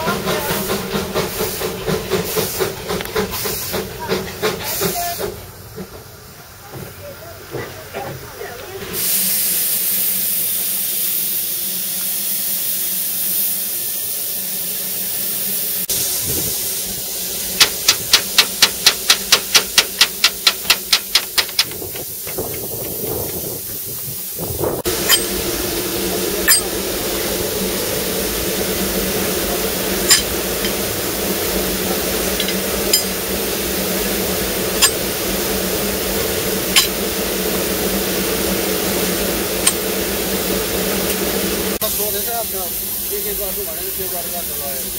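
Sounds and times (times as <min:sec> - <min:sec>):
steam hissing: 0:00.0 - 0:44.9.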